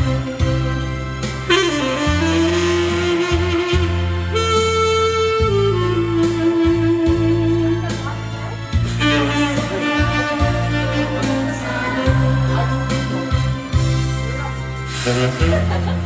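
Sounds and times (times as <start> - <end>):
backing track with bass line: 0.0 - 16.0
tenor saxophone ballad melody: 0.0 - 16.0.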